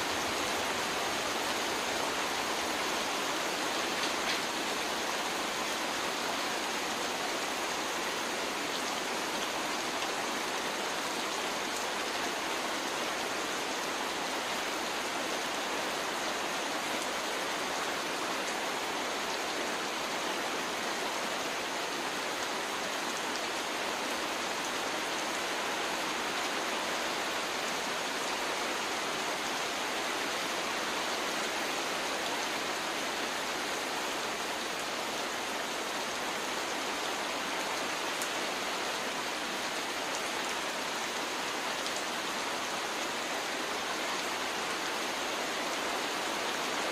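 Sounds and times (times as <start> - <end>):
heavy rain on water: 0.0 - 46.9.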